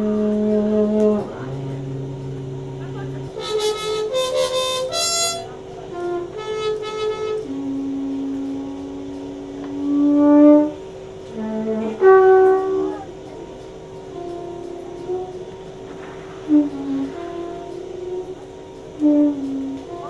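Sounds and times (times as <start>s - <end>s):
slow melody of held notes: 0.0s - 20.0s
steady drone: 0.0s - 20.0s.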